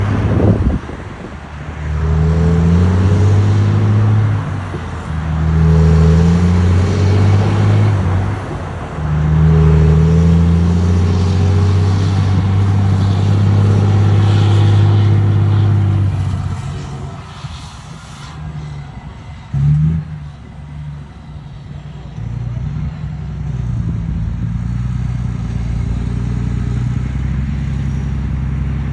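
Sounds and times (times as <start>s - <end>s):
diesel truck engine revving: 0.0s - 28.9s.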